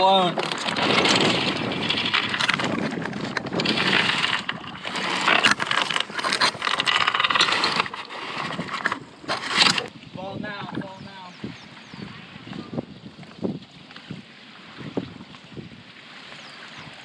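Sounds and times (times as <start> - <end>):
water splashing at boat bow: 0.0 - 17.0
wind on microphone: 0.0 - 17.0.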